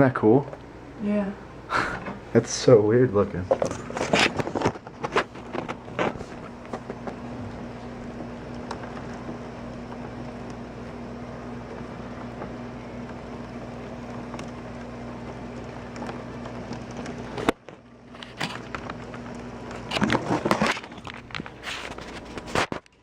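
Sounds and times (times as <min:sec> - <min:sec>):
low steady hum: 0:00.0 - 0:22.9.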